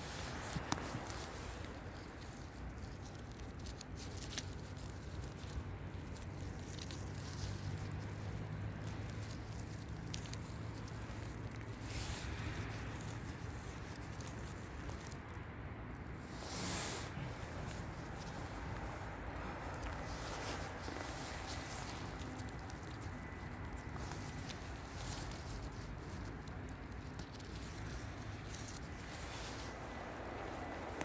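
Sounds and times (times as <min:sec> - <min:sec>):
dry leaf litter crackling: 0:00.0 - 0:31.0
wind rumble on microphone: 0:05.0 - 0:31.0.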